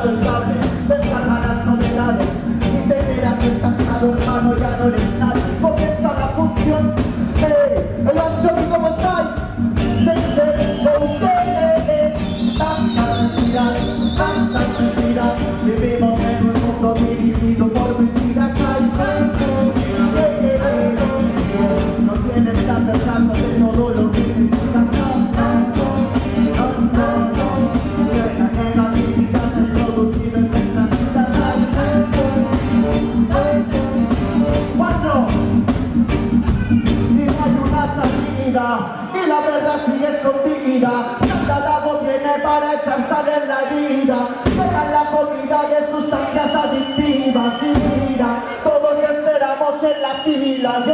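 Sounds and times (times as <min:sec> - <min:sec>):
man singing: 0:00.0 - 0:35.7, 0:36.4 - 0:50.9
live reggae band playing: 0:00.0 - 0:50.9.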